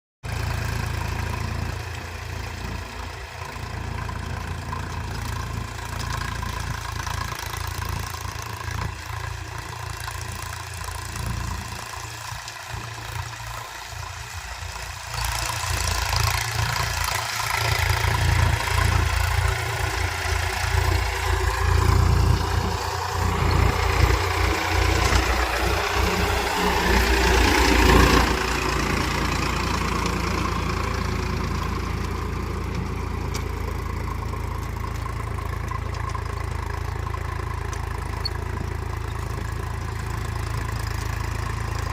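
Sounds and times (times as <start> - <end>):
tractor diesel engine running: 0.2 - 41.9.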